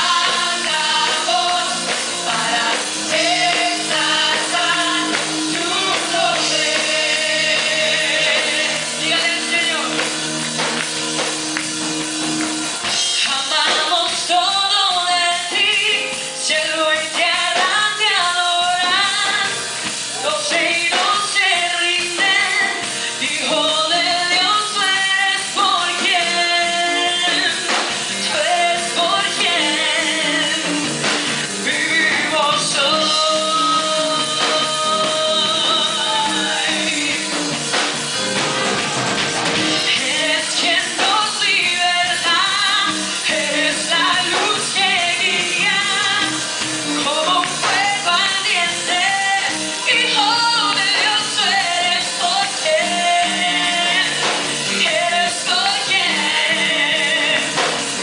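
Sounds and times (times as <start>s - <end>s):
woman singing into microphone: 0.0s - 10.3s, 12.8s - 37.9s, 39.6s - 58.0s
backing singers: 0.0s - 14.7s, 17.6s - 58.0s
instrumental accompaniment: 0.0s - 58.0s.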